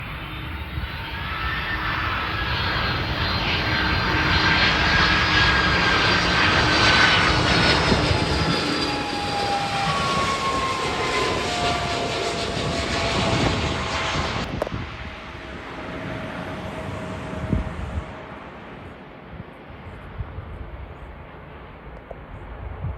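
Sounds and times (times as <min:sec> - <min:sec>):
jet plane passing by: 0:00.0 - 0:22.9.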